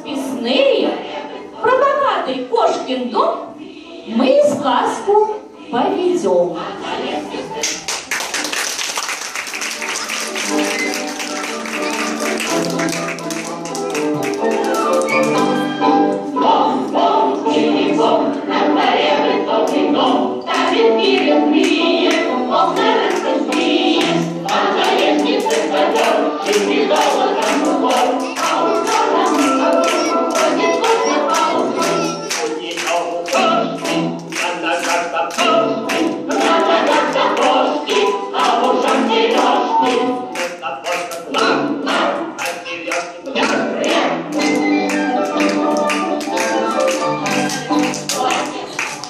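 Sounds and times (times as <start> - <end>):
choir singing: 0.0 - 8.1, 10.0 - 49.0.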